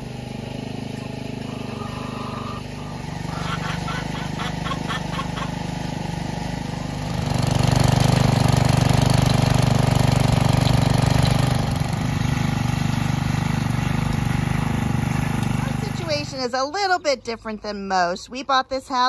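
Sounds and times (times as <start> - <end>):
tiller gas engine running: 0.0 - 17.0.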